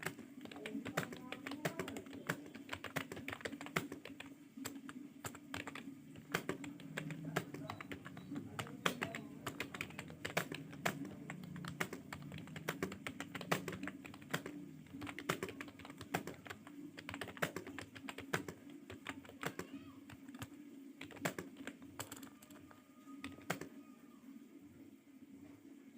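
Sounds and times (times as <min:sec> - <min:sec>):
fast typing on keyboard: 0:00.0 - 0:23.8.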